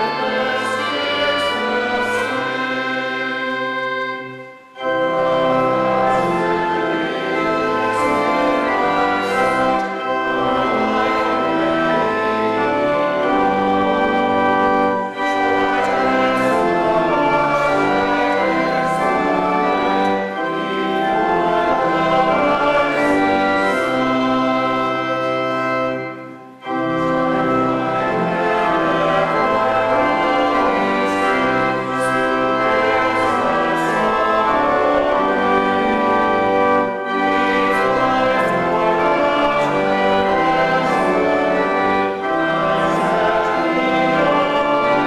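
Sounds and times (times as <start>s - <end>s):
church organ playing hymn: 0.0s - 45.0s.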